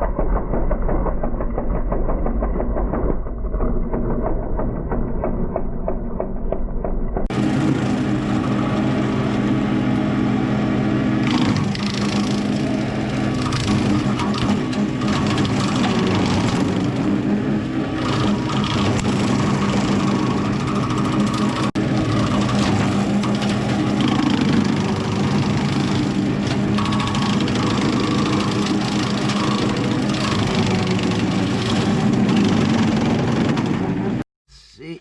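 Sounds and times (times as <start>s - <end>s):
tractor engine running under load: 0.0s - 34.2s.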